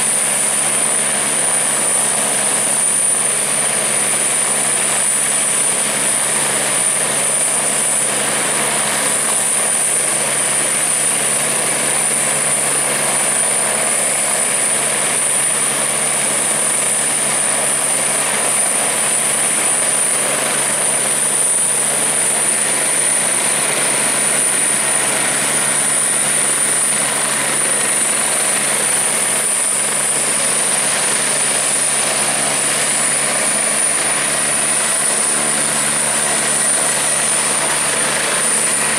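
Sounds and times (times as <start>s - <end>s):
helicopter running: 0.0s - 38.9s
high-pitched turbine whine: 0.0s - 38.9s.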